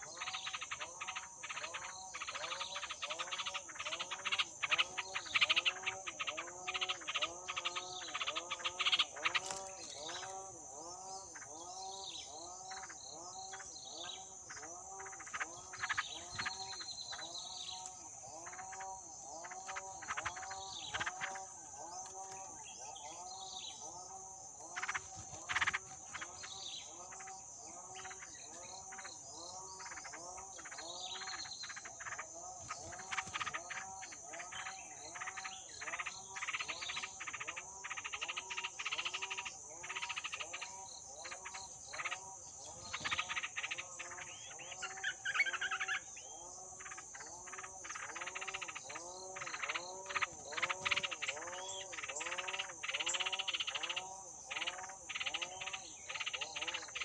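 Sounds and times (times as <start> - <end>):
bird chirps: 0.0 - 57.0
frogs croaking: 0.0 - 57.0
high insect drone: 0.0 - 57.0.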